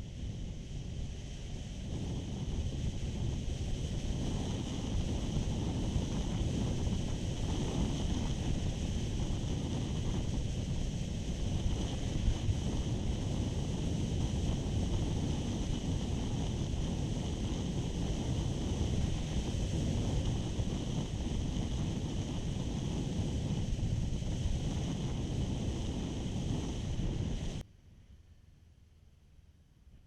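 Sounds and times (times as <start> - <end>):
wind buffeting microphone: 0.0 - 27.6.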